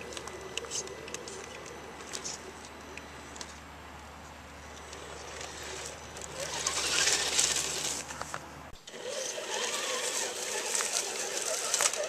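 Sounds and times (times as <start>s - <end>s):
electric motor and gears whirring: 0.0s - 12.0s.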